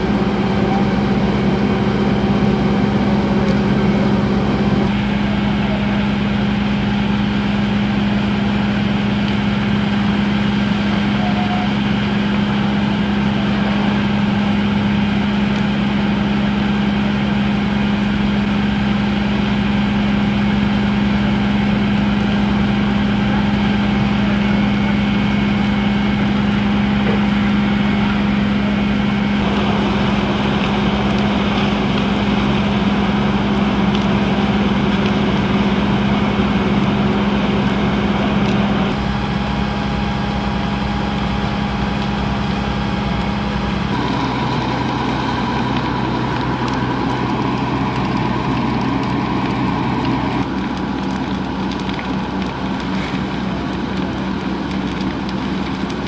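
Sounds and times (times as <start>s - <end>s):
heavy engine humming: 0.0s - 56.0s.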